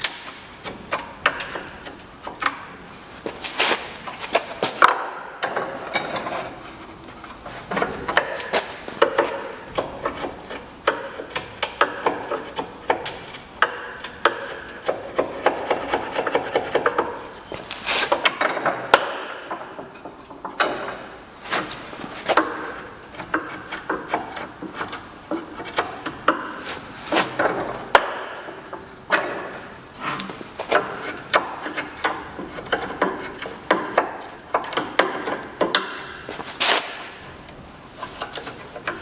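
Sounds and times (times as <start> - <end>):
wood knocks and clicks: 0.0 - 37.2
wood rubbing and scraping: 0.0 - 39.0.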